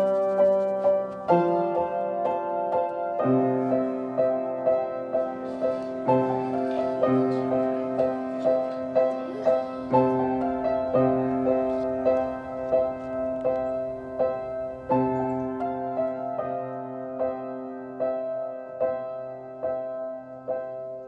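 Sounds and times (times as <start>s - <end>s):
slow gentle piano piece: 0.0s - 21.0s.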